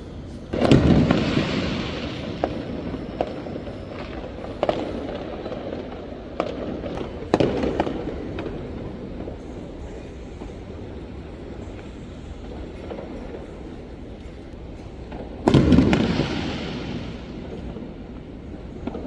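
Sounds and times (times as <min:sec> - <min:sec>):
rumble of distant fireworks: 0:00.0 - 0:19.0
fireworks bangs: 0:00.4 - 0:19.0.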